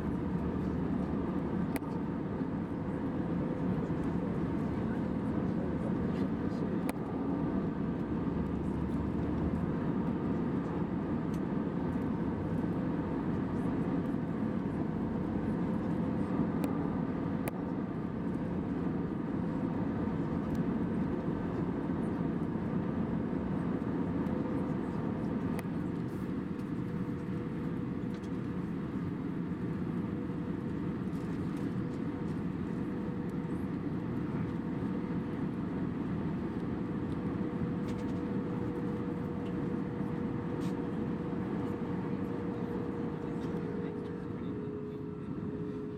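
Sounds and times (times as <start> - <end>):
jet cabin engine rumble: 0.0 - 45.9.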